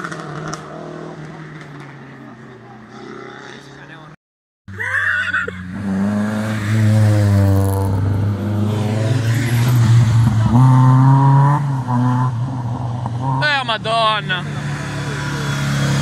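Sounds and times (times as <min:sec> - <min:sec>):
rally cars revving past: 0:00.0 - 0:04.0, 0:05.5 - 0:16.0.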